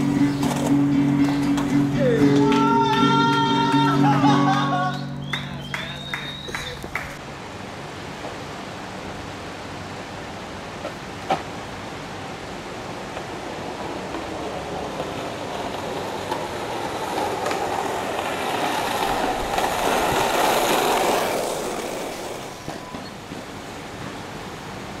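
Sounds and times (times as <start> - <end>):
skateboard wheels rolling on asphalt: 0.0 - 25.0.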